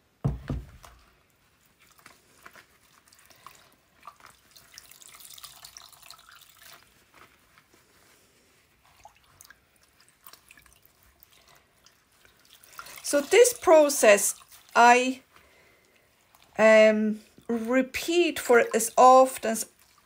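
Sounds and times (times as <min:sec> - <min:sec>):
water dripping and splashing: 0:00.8 - 0:08.0, 0:08.7 - 0:20.0.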